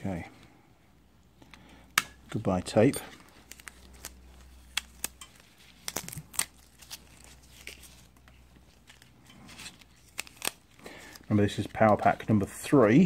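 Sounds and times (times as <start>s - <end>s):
plastic parts clicking and crinkling: 1.4s - 13.0s.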